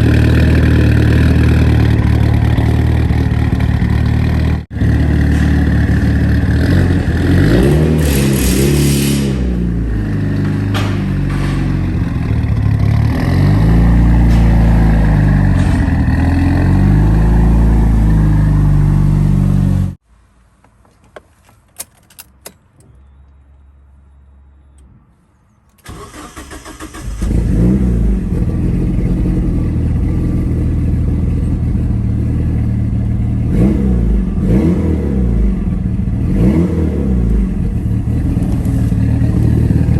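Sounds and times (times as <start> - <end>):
car engine revving: 0.0 - 20.0, 25.9 - 39.9.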